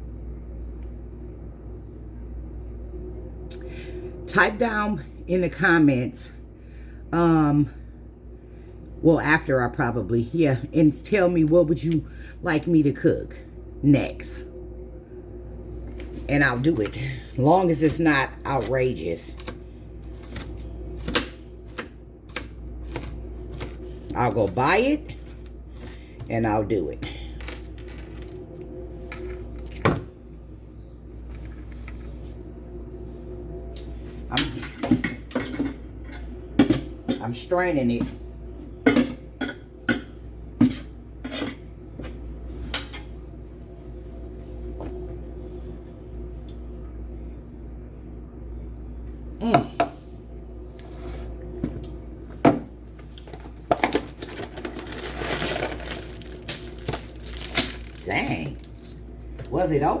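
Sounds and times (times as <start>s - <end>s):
appliance humming: 0.0s - 60.0s.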